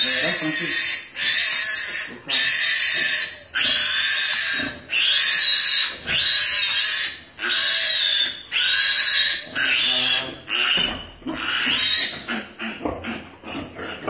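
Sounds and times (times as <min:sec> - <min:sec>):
piglet squealing: 0:00.0 - 0:14.0.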